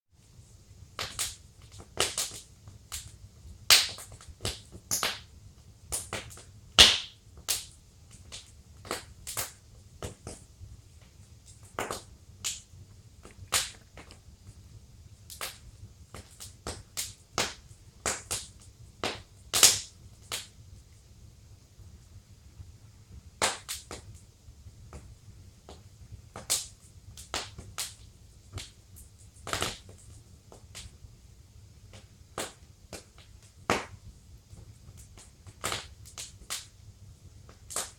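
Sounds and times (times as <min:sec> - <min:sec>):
faint low rumble: 0:00.2 - 0:37.7
wood fire crackling: 0:00.2 - 0:37.9.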